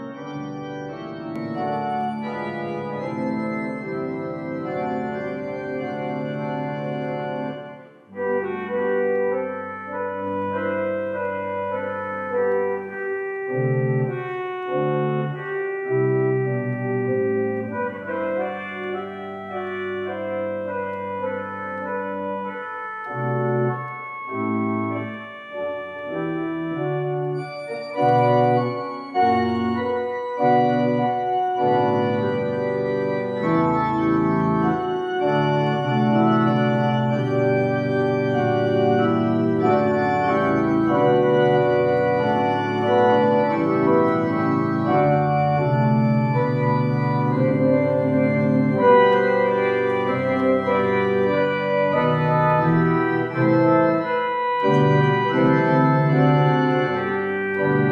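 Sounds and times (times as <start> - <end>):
church organ chords: 0.0 - 57.9.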